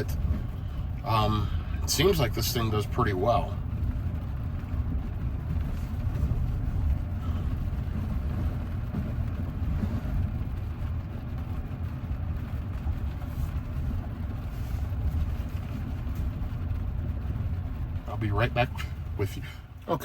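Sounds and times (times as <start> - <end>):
tyre and road rumble: 0.0 - 20.0.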